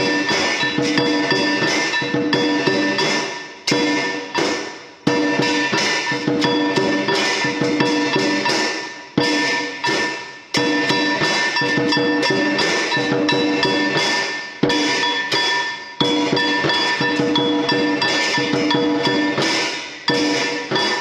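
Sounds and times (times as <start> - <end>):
ringing metallic tones: 0.0 - 21.0
sharp drum strikes: 0.0 - 21.0.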